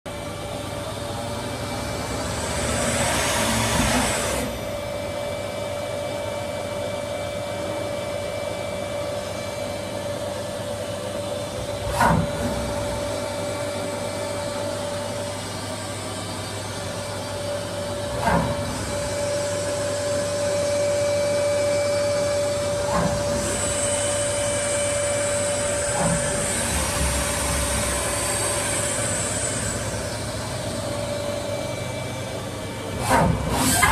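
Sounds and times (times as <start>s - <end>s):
lathe machine hum and whine: 0.1s - 33.9s.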